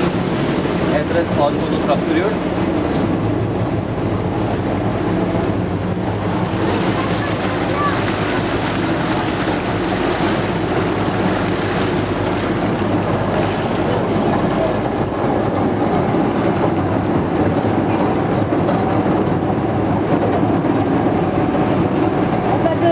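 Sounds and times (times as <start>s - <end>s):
boat engine running: 0.0s - 22.9s
rushing water: 0.0s - 22.9s
wind: 0.0s - 22.9s.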